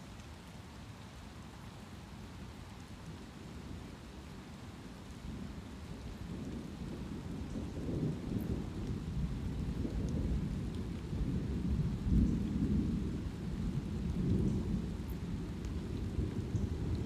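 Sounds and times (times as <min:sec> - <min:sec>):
light rain: 0:00.0 - 0:17.0.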